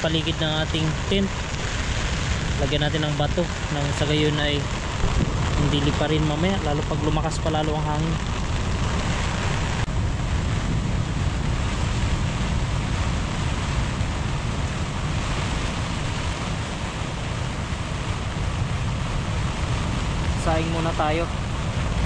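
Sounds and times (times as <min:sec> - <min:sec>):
surf breaking on beach: 0:00.0 - 0:22.0
wind buffeting microphone: 0:00.0 - 0:22.0.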